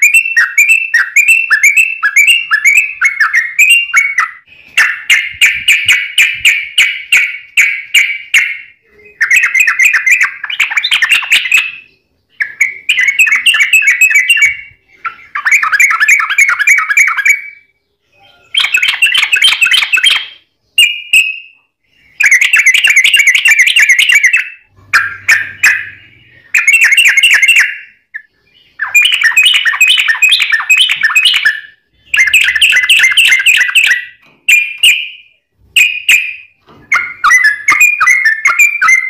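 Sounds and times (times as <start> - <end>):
bird chattering song: 0.0 - 39.0.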